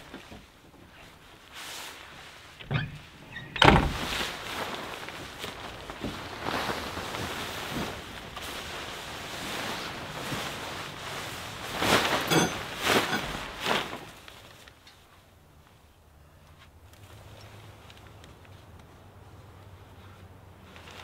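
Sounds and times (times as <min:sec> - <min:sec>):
tarp rustling and swishing: 0:00.0 - 0:15.9, 0:16.9 - 0:21.0.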